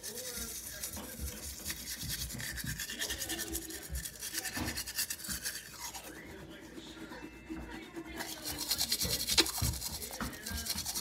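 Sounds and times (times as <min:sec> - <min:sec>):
toothbrush scrubbing teeth: 0:00.0 - 0:11.0.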